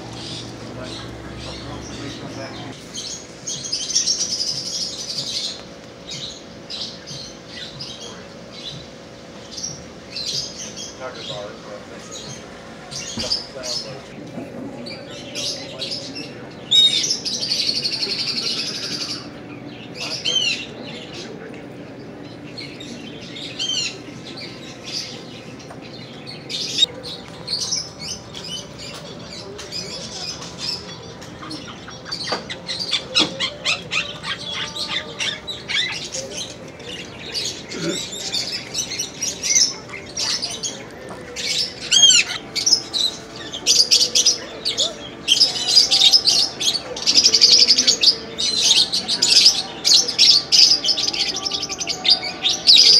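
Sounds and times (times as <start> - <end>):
cage birds chirping: 0.0 - 52.9.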